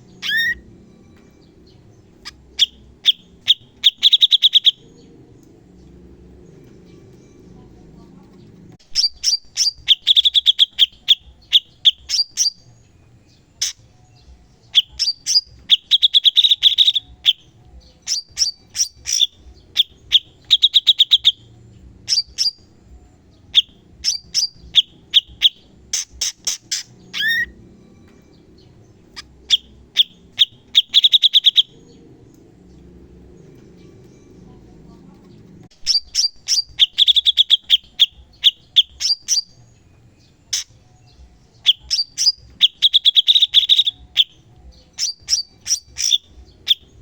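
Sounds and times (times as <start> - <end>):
bird singing rapid trills: 0.0 - 47.0.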